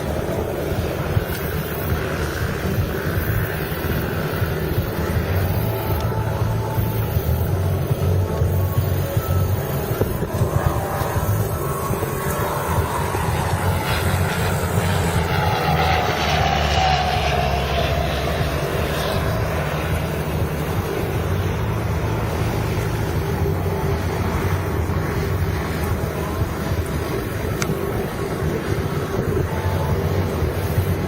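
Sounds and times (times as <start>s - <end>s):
helicopter engine whine: 0.0s - 31.0s
helicopter rotor beating: 0.0s - 31.0s.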